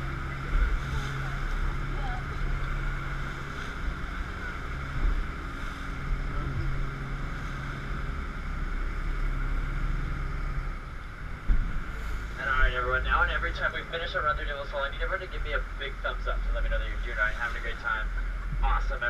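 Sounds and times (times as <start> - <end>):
boat engine drone: 0.0 - 19.0
rushing water: 0.0 - 19.0
wind: 0.0 - 19.0.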